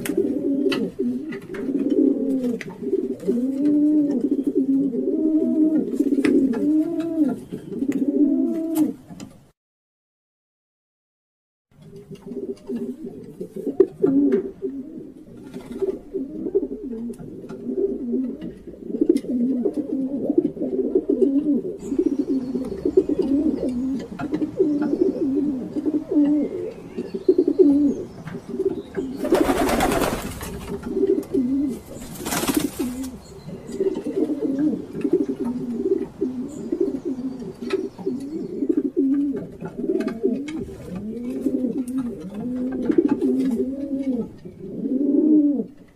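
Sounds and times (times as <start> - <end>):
pigeons cooing: 0.0 - 9.0, 11.8 - 45.9.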